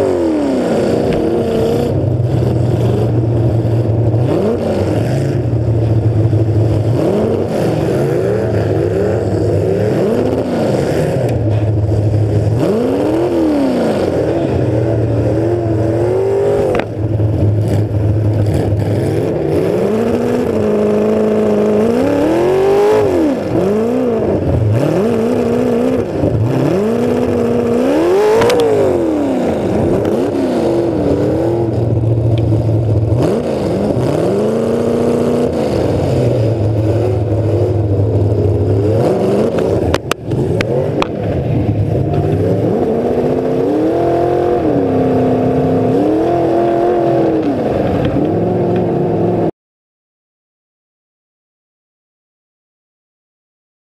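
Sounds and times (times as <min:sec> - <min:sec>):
car engine revving: 0:00.0 - 0:49.5.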